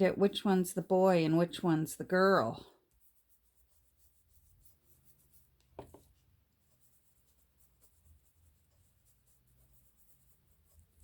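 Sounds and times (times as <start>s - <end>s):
pen scratching on paper: 2.2s - 11.0s.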